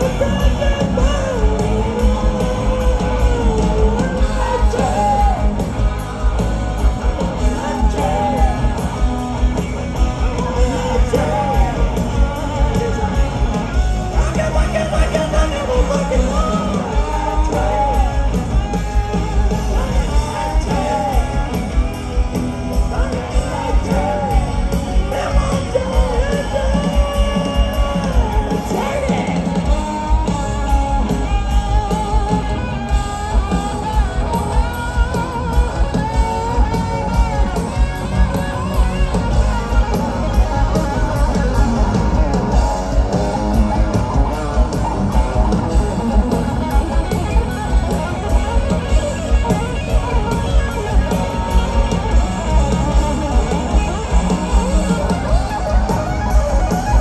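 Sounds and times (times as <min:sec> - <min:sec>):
bass guitar: 0:00.0 - 0:57.0
electric guitars: 0:00.0 - 0:57.0
person singing lead vocal: 0:00.0 - 0:57.0
steady drum beat: 0:00.0 - 0:57.0.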